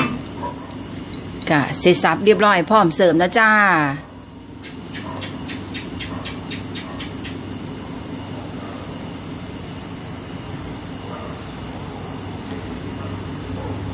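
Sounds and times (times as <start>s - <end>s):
low hum with hiss: 0.0s - 13.9s.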